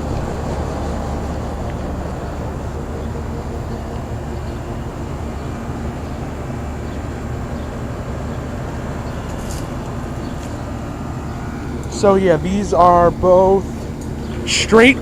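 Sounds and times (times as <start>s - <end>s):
compressor hum: 0.0s - 15.0s
condenser fans whooshing: 0.0s - 15.0s.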